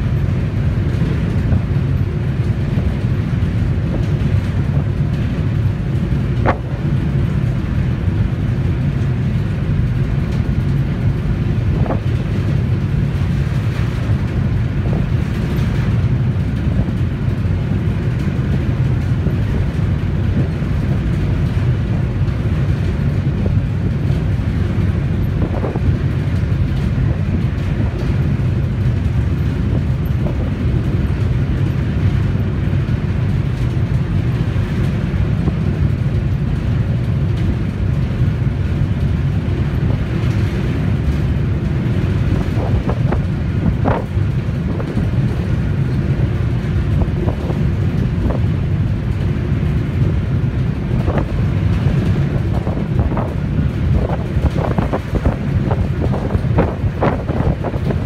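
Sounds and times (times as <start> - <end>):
boat engine rumble: 0.0 - 58.0.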